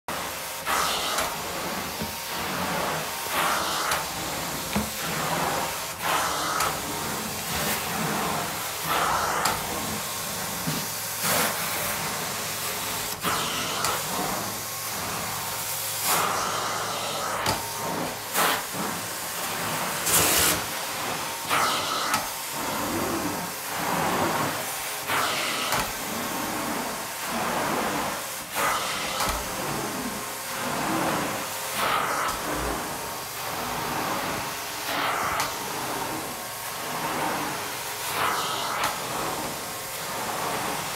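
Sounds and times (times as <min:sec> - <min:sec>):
carpet cleaning wand hissing: 0:00.1 - 0:40.9.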